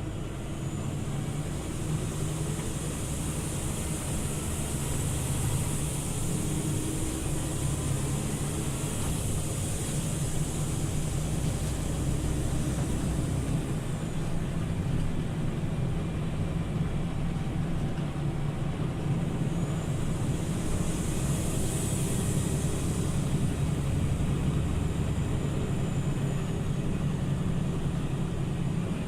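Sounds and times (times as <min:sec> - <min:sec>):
bus engine drone and road noise: 0:00.0 - 0:29.0.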